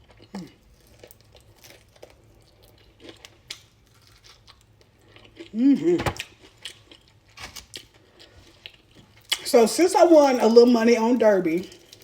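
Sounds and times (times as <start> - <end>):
chewing crispy chicken: 0.0 - 9.5, 11.5 - 12.0.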